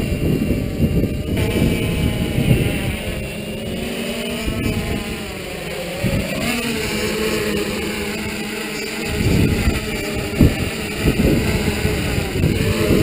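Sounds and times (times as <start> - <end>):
drone motors buzzing: 0.0 - 13.0
wind rumble on microphone: 0.0 - 13.0.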